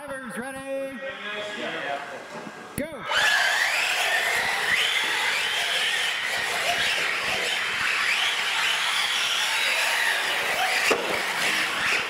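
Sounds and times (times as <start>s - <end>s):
electric motors whining: 1.2s - 12.0s.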